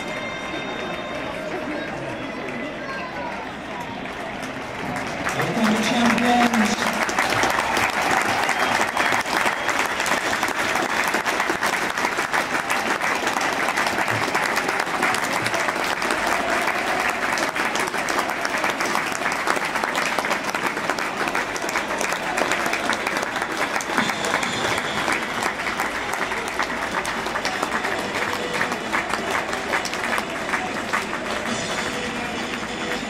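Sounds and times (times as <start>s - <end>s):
crowd clapping: 0.0s - 33.0s
crowd voices: 0.0s - 33.0s.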